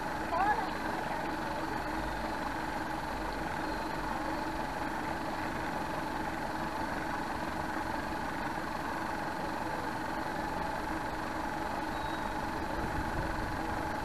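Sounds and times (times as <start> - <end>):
constant whine: 0.0 - 14.0
small motor humming: 0.0 - 14.0.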